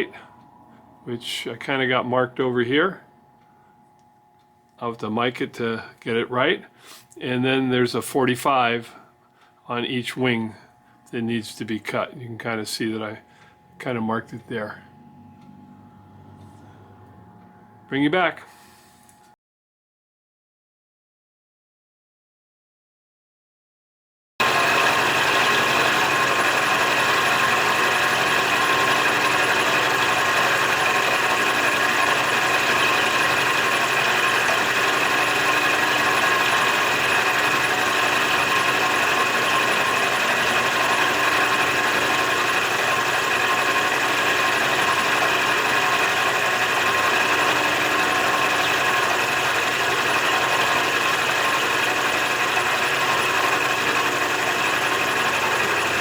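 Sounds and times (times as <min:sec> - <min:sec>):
machine tool whining: 0:00.0 - 0:19.4, 0:24.4 - 0:56.0.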